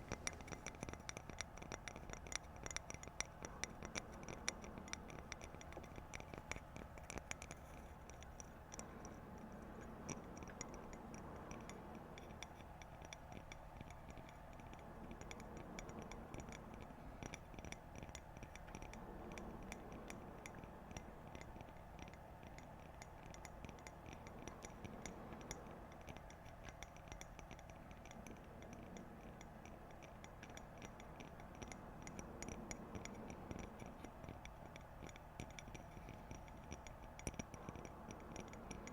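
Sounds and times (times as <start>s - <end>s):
light quick tapping clicks: 0.0s - 38.9s.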